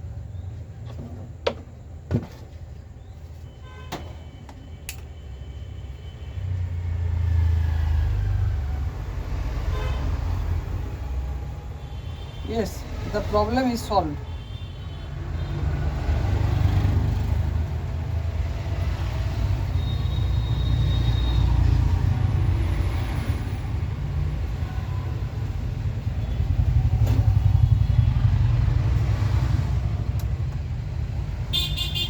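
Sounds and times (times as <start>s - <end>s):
low rumble of road traffic: 0.0s - 32.0s.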